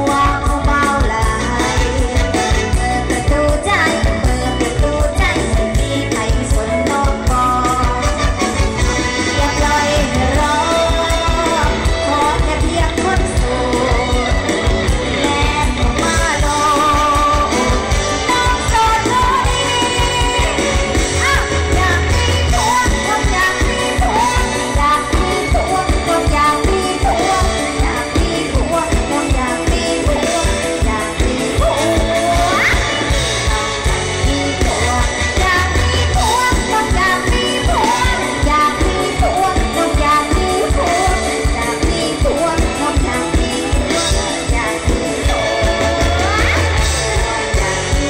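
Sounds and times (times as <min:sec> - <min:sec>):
live band music through a pa: 0:00.0 - 0:48.0
steady drum beat: 0:00.0 - 0:48.0
woman singing into a microphone: 0:00.0 - 0:48.0.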